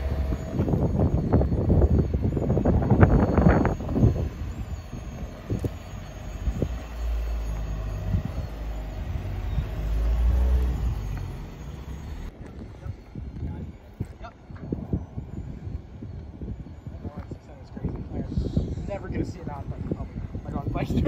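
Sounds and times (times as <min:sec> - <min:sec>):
off-road vehicle engine rumble: 0:00.0 - 0:21.0.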